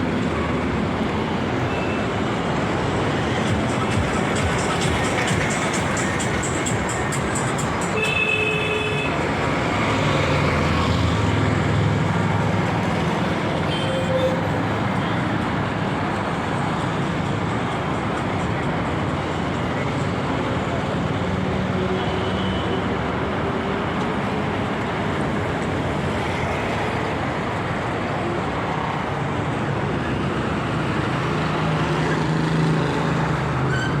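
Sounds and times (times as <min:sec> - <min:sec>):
road traffic hiss: 0:00.0 - 0:34.0.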